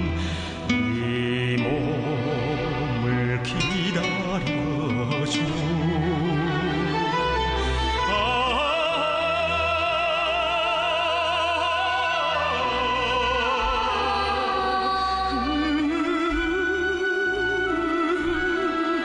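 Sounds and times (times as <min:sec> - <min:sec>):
person singing with vibrato: 0:00.0 - 0:19.0.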